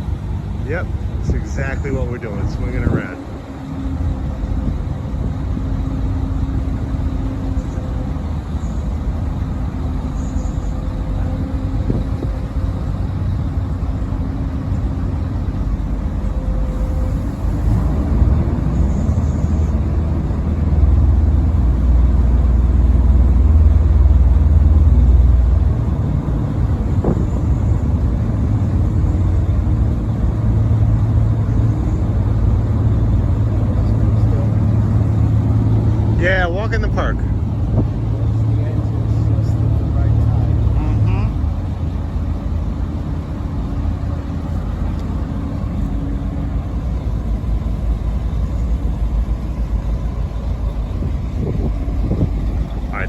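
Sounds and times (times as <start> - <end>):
boat engine rumbling: 0.0 - 53.0.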